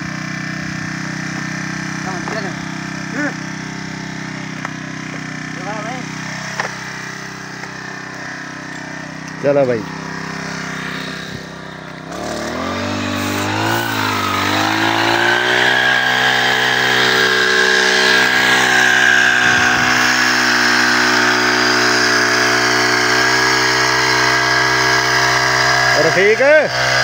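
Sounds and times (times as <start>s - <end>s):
small petrol engine revving: 0.0s - 27.0s
sprayer lance spraying: 0.1s - 27.0s.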